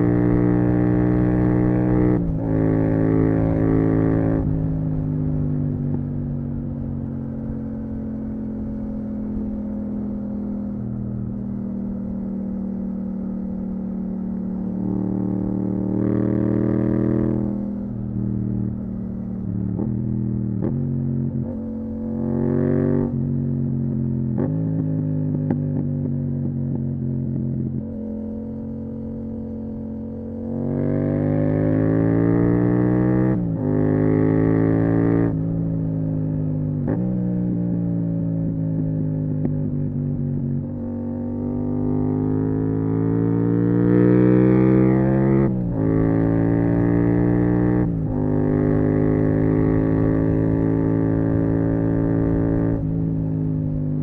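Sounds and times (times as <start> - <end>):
motorcycle engine riding along: 0.0 - 54.0.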